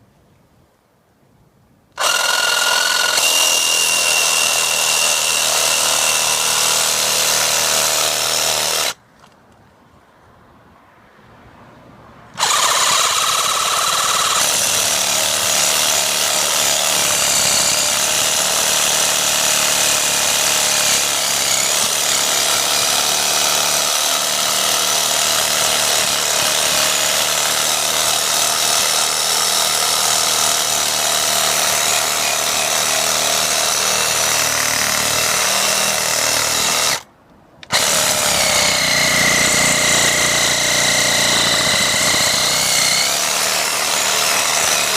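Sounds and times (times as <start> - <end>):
reciprocating saw cutting branch: 2.0 - 9.0, 12.4 - 44.9.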